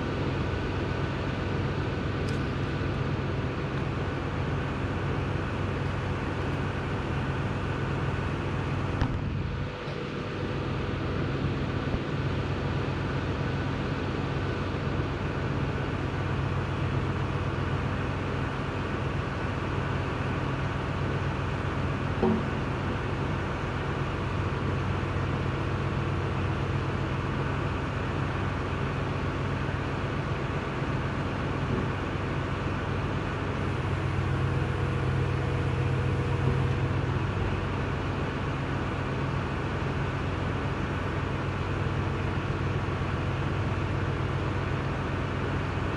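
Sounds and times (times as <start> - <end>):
machine droning: 0.0 - 45.9.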